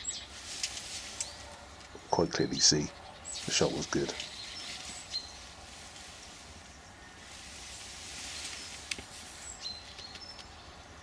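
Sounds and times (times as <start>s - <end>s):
soft hiss: 0.0s - 1.9s, 3.3s - 10.9s
birds whistling: 0.0s - 11.0s.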